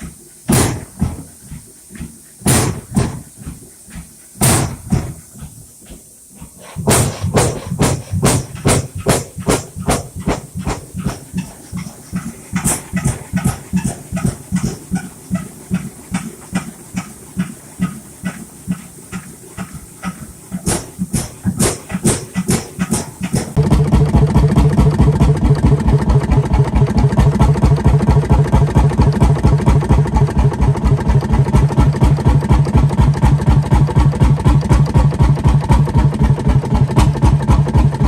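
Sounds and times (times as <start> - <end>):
stationary engine exhaust beats: 0.0 - 38.0.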